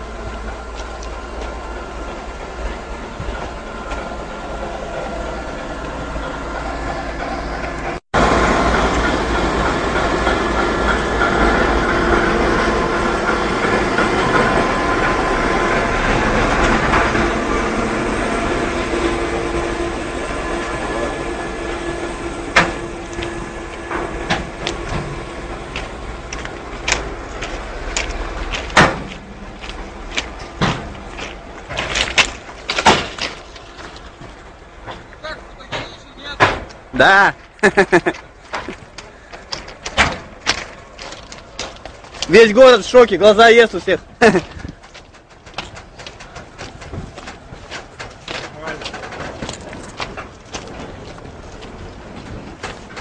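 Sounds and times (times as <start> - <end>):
train wagons rolling: 0.0 - 53.0
wheels clacking over rail joints: 0.0 - 53.0.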